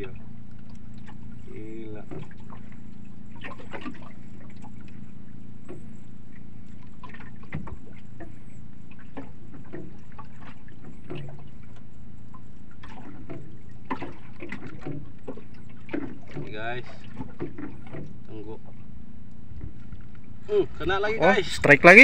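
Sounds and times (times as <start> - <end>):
steady low hum: 0.0 - 22.0
water slapping against boat hull: 0.0 - 22.0.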